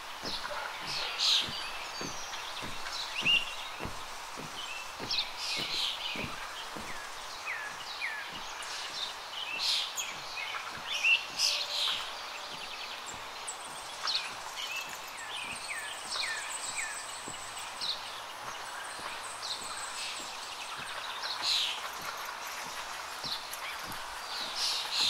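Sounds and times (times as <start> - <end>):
footsteps on steel grating: 0.0 - 25.0
wild birds chirping: 0.0 - 25.0.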